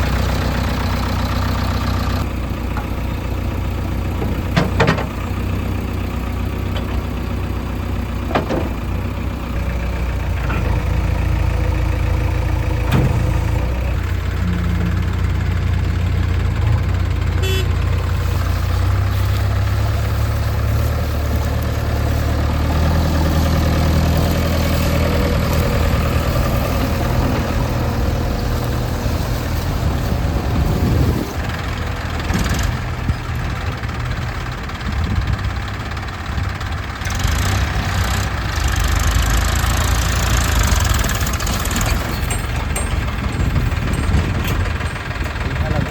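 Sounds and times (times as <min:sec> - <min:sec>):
diesel engine of backhoe working: 0:00.0 - 0:45.9.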